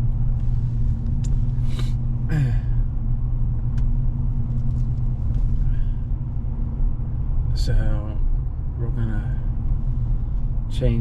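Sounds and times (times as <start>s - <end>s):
pickup truck engine rumble: 0.0s - 11.0s
road noise: 0.0s - 11.0s.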